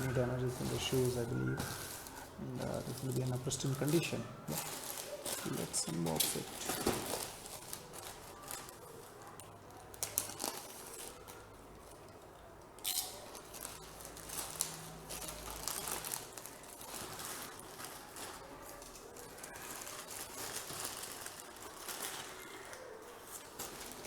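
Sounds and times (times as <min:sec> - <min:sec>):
cardboard and paper rustling: 0:00.0 - 0:11.6, 0:13.3 - 0:24.0.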